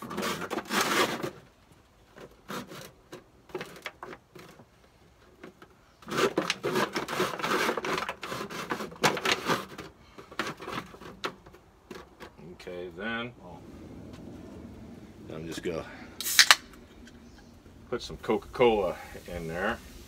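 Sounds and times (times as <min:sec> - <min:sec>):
rustling and scraping: 0:00.0 - 0:20.0.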